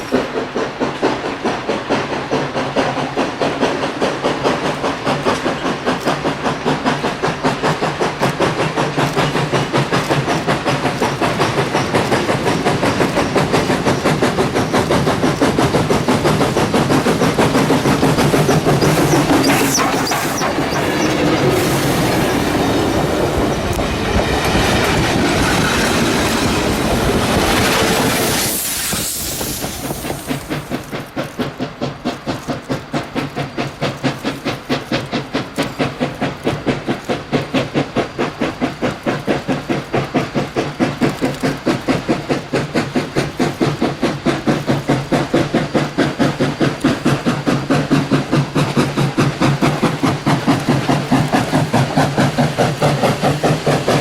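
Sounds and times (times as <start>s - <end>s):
steam locomotive chuffing beat: 0.0s - 54.0s.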